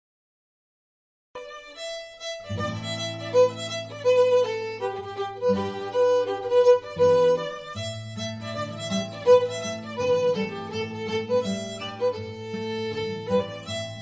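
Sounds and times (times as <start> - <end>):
fiddle playing a tune: 1.4 - 14.0.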